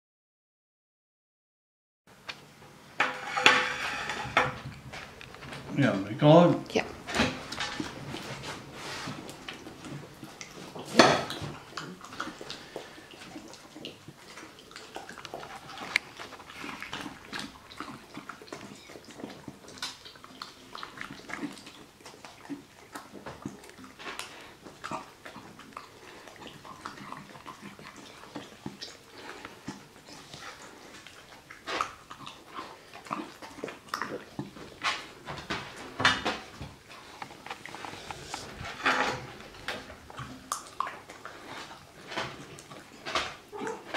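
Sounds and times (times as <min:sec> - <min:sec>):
dog licking and chewing: 0:04.5 - 0:43.9.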